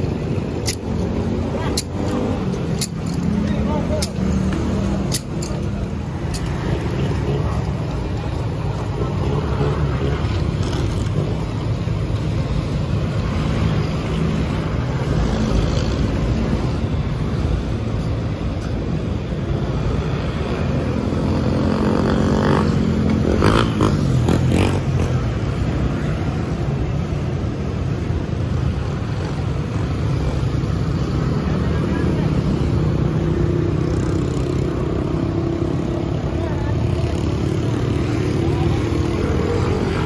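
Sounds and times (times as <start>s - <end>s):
road traffic passing: 0.0s - 40.0s.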